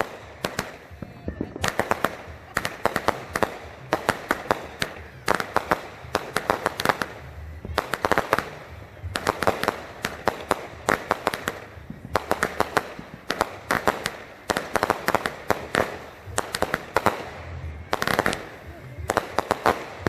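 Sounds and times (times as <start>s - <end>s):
fireworks popping and cracking: 0.0s - 20.0s.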